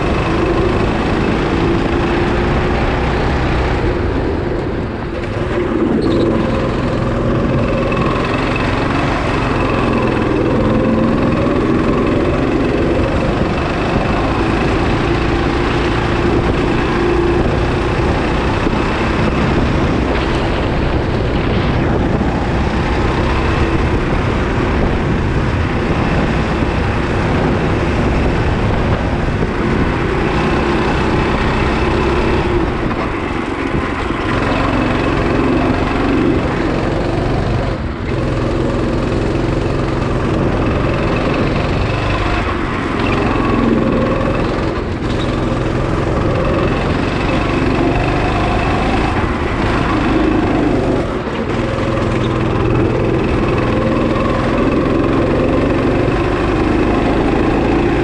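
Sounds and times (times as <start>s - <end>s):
go-kart engine running hard: 0.0s - 58.0s.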